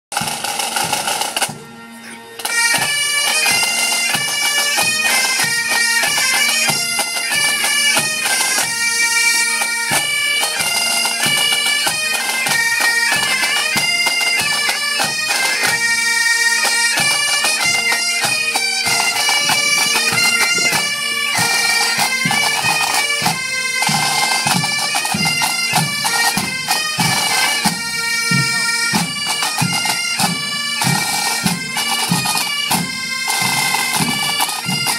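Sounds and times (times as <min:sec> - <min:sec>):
drum beats: 0:00.1 - 0:09.0, 0:09.6 - 0:16.0, 0:16.7 - 0:34.9
bagpipes over a drone: 0:00.2 - 0:34.9.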